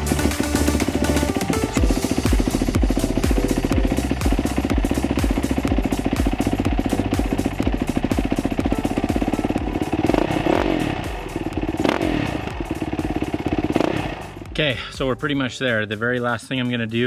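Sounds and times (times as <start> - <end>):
engine throttle blips: 0.0 - 14.9
dirt bike engine idling: 0.0 - 17.0.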